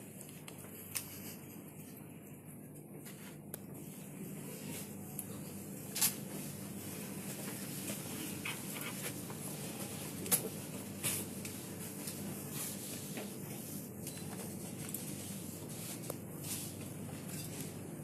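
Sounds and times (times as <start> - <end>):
low hum and hiss: 0.0 - 18.0.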